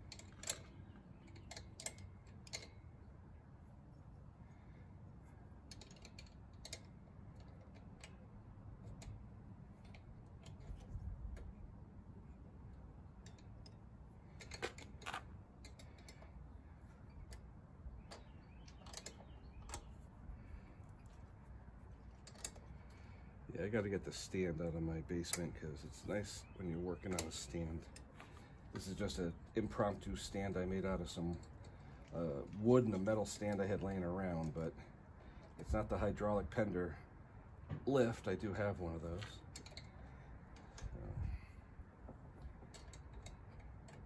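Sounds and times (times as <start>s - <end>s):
faint low hum: 0.0s - 44.0s.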